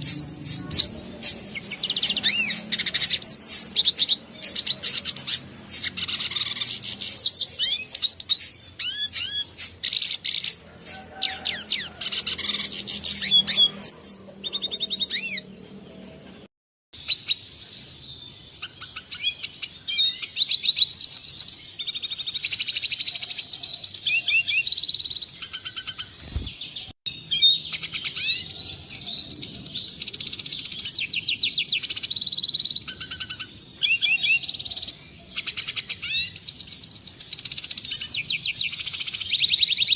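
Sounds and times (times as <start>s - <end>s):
bird twittering song: 0.0s - 10.6s, 11.2s - 39.9s.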